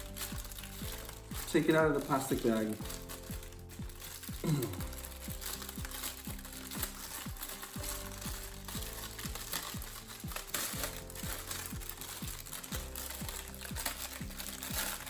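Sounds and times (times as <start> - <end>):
background music: 0.0 - 15.0
plastic bag crinkling: 0.0 - 15.0.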